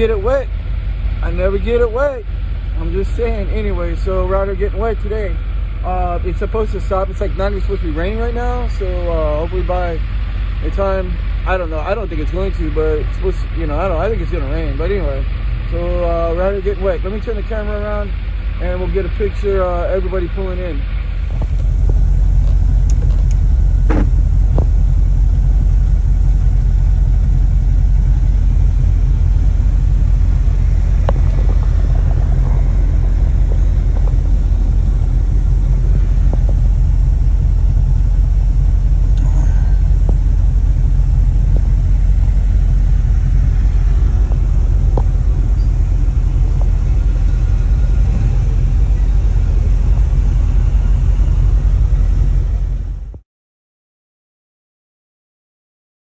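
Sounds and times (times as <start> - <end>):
car engine idling: 0.0 - 53.2.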